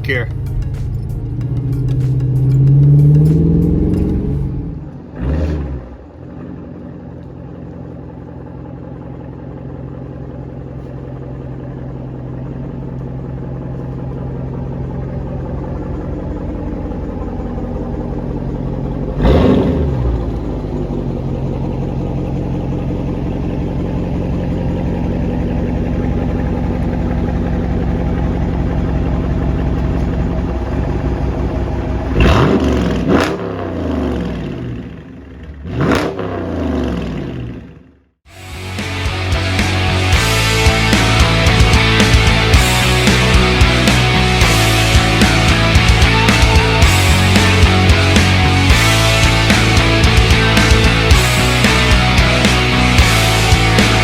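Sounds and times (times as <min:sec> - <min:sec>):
car engine revving: 0:00.0 - 0:54.0
car engine running: 0:00.0 - 0:54.0.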